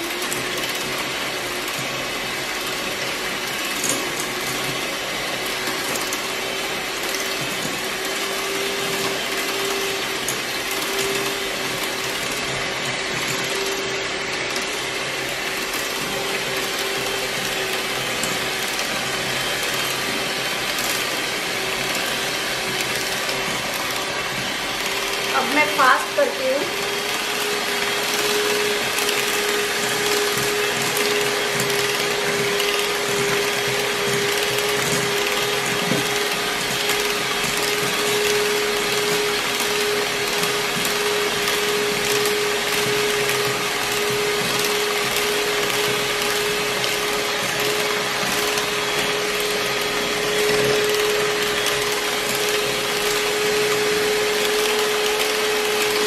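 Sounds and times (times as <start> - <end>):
electric hand mixer whine: 0.0 - 56.0.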